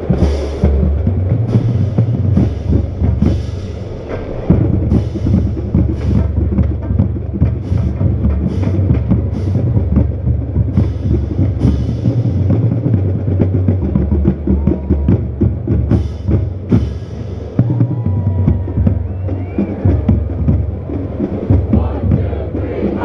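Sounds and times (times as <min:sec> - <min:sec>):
bass drums: 0:00.0 - 0:23.0
snare drums: 0:00.0 - 0:23.0.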